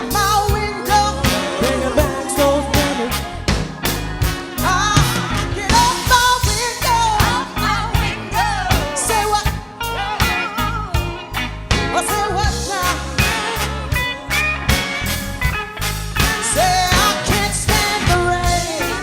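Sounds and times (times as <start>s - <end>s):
soul band playing: 0.0s - 19.0s.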